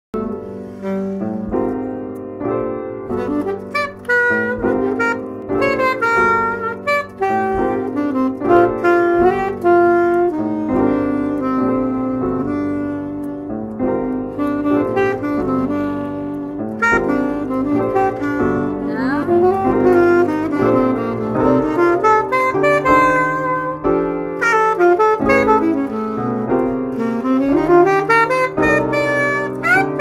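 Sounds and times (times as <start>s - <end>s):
piano chords: 0.1s - 30.0s
saxophone melody: 0.2s - 30.0s.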